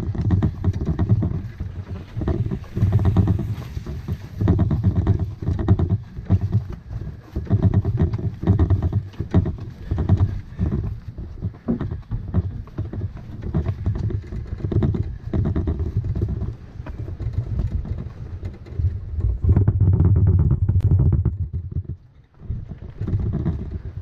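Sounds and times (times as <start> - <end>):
rumbling handling noise: 0.0 - 24.0
thudding footsteps: 0.0 - 24.0.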